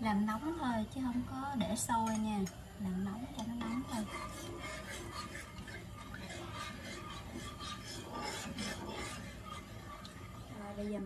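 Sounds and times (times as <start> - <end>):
utensil scraping saucepan: 0.4 - 11.0.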